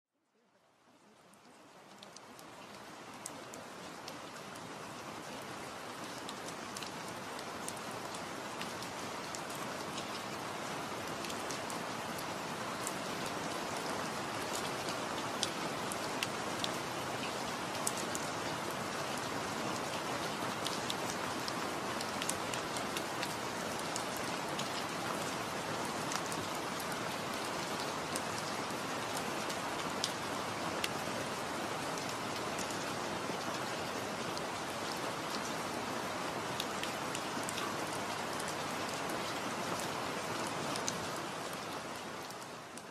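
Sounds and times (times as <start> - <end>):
steady rain: 0.2 - 42.9.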